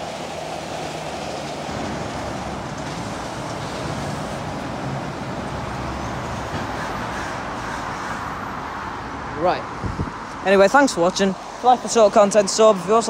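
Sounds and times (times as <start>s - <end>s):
diesel engines rumbling: 0.0s - 13.0s
lorries driving past: 0.0s - 13.0s.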